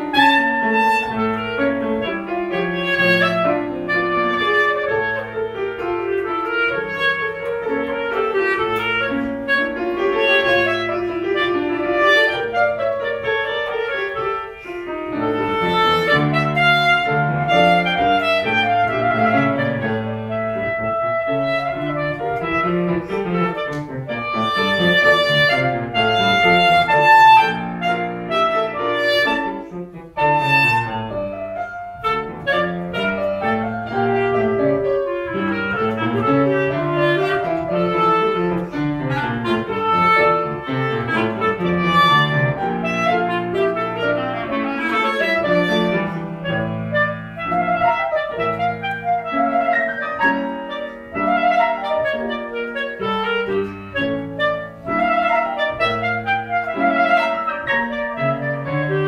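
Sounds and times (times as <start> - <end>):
clarinet melody: 0.0 - 59.0
piano accompaniment: 0.0 - 59.0.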